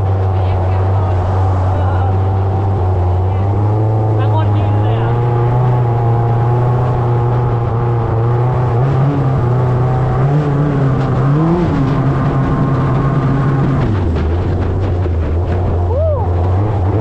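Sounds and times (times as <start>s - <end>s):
engine with loud exhaust: 0.0s - 17.0s.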